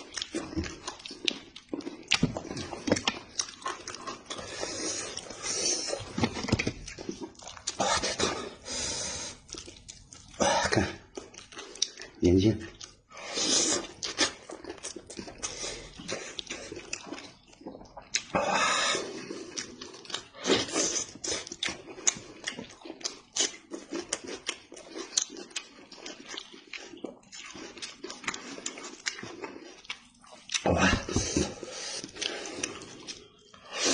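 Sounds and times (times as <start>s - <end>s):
wet chewing and smacking: 0.0s - 33.9s.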